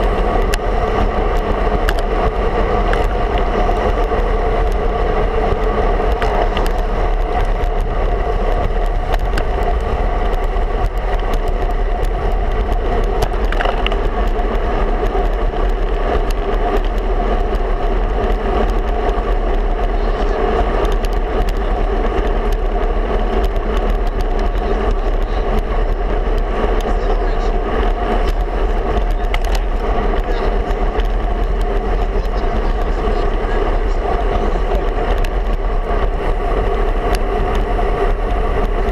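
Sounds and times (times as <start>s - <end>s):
ticks and rattles from road: 0.0s - 38.9s
tyre hum: 0.0s - 38.9s
wind buffeting microphone: 0.0s - 38.9s.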